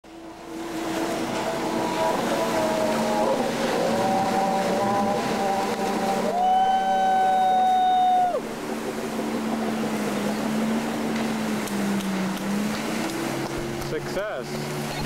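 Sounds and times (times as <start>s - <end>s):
boat engine running: 0.0s - 15.0s
water and wind noise: 0.0s - 15.0s.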